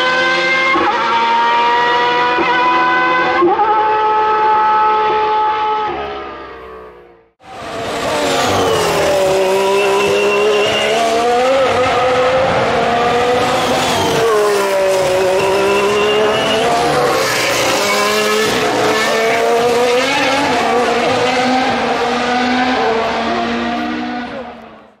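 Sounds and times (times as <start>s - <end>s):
racing car engine revving: 0.0s - 25.0s.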